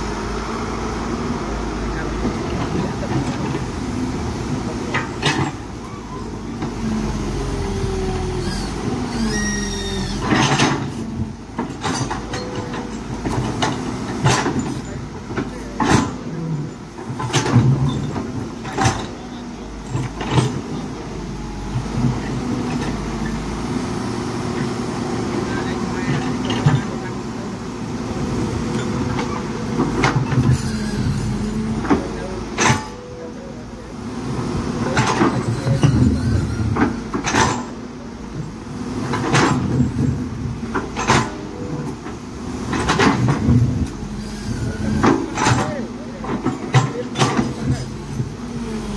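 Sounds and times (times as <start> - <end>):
excavator running: 0.0 - 48.9.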